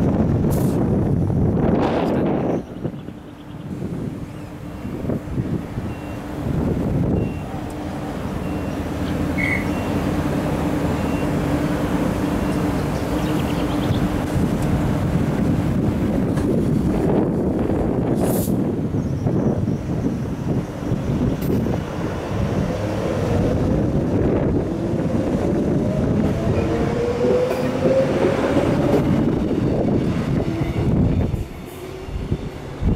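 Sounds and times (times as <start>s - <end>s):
train wheels rumbling on rail: 0.0s - 32.9s.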